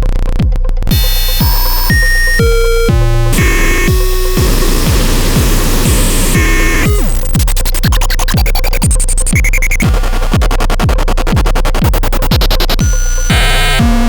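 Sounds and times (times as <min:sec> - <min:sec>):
kick drum thumping: 0:00.0 - 0:14.0
glitchy electronic noise: 0:00.9 - 0:14.0.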